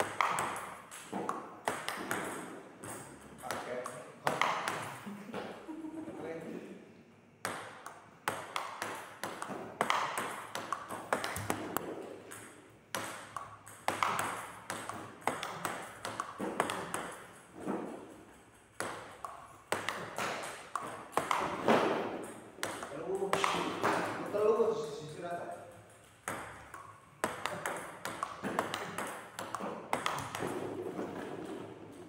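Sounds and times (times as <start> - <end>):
table tennis ball clicking: 0.0 - 4.9, 7.4 - 24.5, 25.2 - 32.0.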